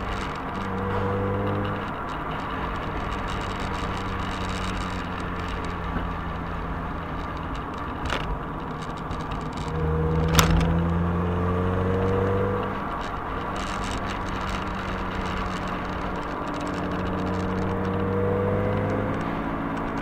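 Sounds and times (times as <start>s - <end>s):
car engine hum: 0.0s - 20.0s
tyre noise: 0.0s - 20.0s.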